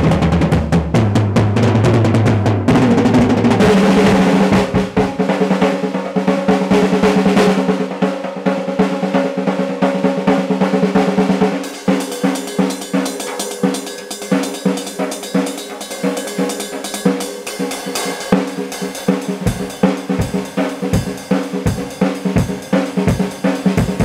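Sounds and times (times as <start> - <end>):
drum kit roll: 0.0 - 24.0
sharp drum strokes: 0.0 - 24.0.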